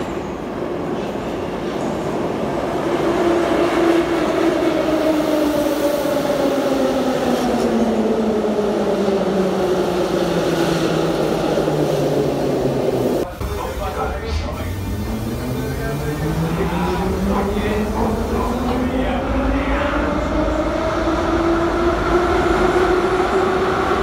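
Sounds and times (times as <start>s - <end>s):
metro train rumble: 0.0s - 24.0s.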